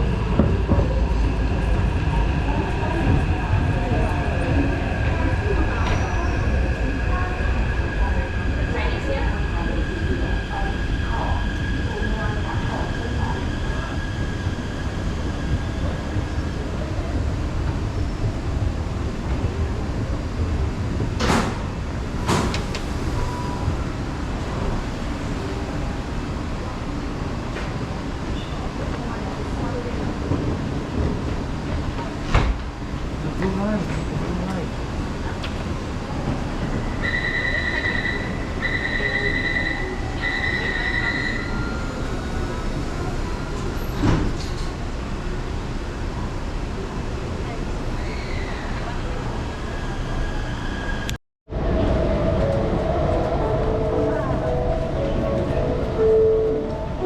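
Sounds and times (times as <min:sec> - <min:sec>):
metro train rumbling: 0:00.0 - 0:57.0.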